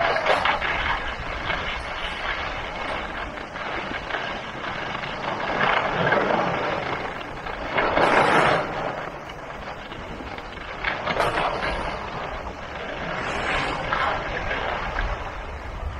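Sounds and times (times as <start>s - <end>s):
skis scraping over snow: 0.0s - 15.9s.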